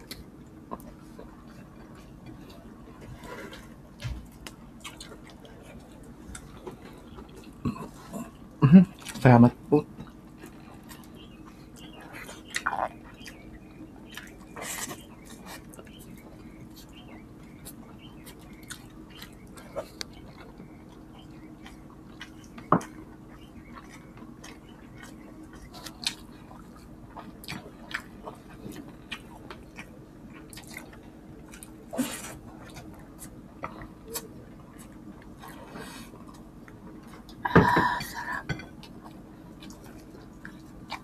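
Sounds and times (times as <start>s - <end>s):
wet chewing and mouth smacking: 0.0s - 9.2s, 10.0s - 37.4s, 38.6s - 41.0s
low steady hum: 0.0s - 41.0s.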